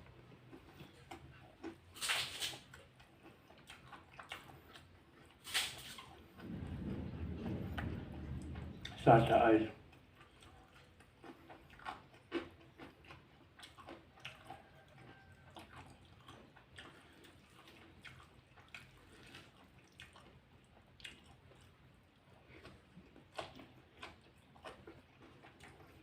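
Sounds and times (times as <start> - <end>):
person chewing: 0.0 - 6.6, 9.8 - 26.0.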